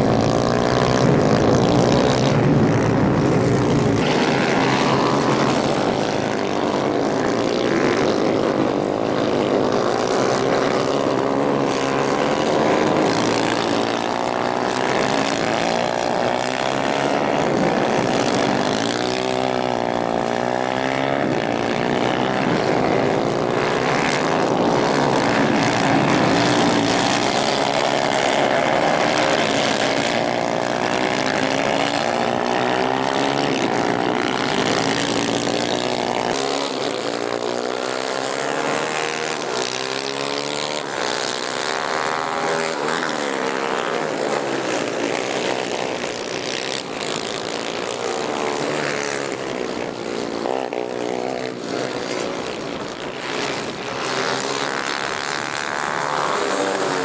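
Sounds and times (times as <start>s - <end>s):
racing kart engines: 0.0s - 57.0s.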